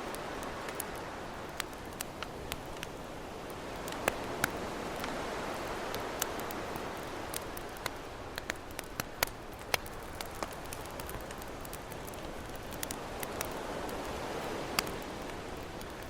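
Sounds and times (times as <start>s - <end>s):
campfire crackling: 0.0s - 16.0s
ocean waves: 0.0s - 16.0s.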